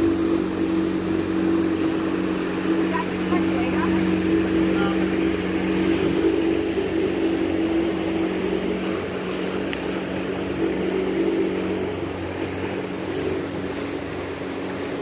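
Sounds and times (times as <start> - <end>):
outboard motor droning: 0.0 - 15.0
water rushing past hull: 0.0 - 15.0.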